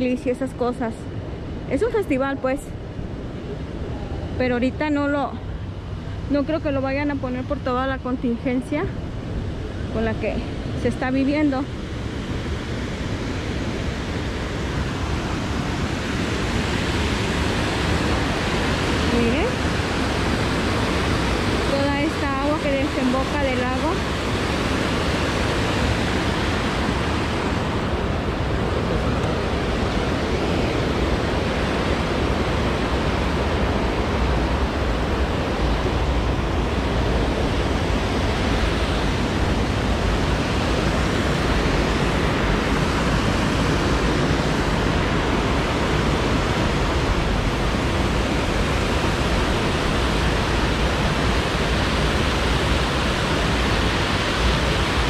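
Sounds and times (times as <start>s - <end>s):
water rushing over a weir: 9.4s - 55.0s.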